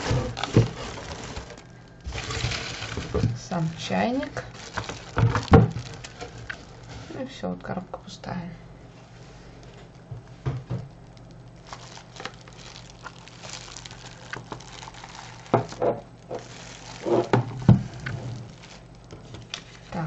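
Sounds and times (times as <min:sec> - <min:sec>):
plastic wrapping crinkling: 0:00.0 - 0:07.4, 0:09.5 - 0:20.0.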